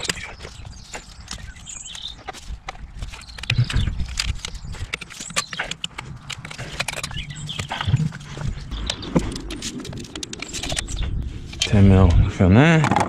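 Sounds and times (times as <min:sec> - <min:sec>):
clicks and scrapes on engine part: 0:00.0 - 0:11.8.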